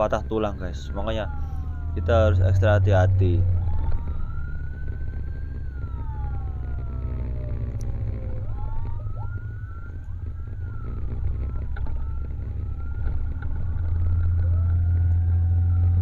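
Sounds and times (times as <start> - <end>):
emergency sirens wailing: 0.0 - 16.0
low vehicle rumble: 0.0 - 16.0.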